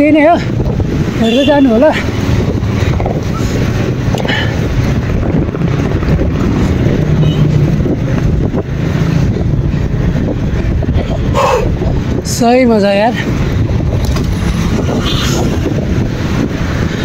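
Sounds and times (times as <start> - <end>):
motor vehicles running close by: 0.0 - 17.0
wind rumbling on microphone: 0.0 - 17.0.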